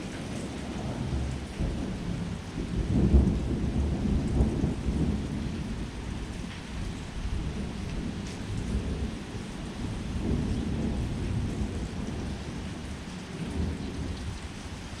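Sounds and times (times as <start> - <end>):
heavy rain: 0.0 - 15.0
rolling thunder rumbling: 0.0 - 15.0.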